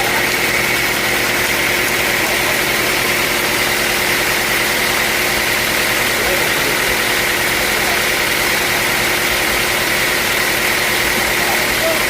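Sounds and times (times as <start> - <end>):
constant high whine: 0.0 - 12.0
engine drone: 0.0 - 12.0
sawmill machinery running: 0.0 - 12.0.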